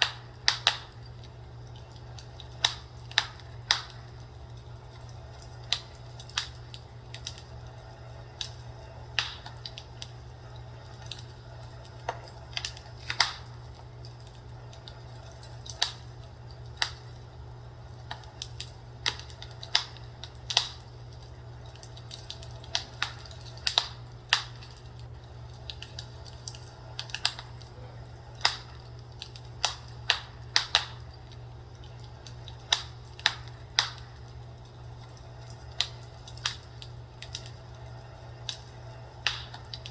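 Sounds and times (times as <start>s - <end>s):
fireplace crackling: 0.0s - 39.9s
steady low hum: 0.0s - 39.9s.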